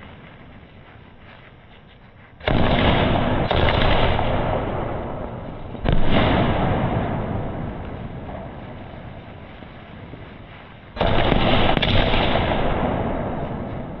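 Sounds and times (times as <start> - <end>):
fireworks bangs with rumble: 2.4 - 14.0.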